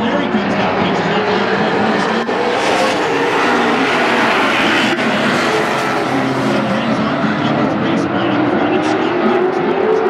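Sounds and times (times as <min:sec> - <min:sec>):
race car engines: 0:00.0 - 0:10.0.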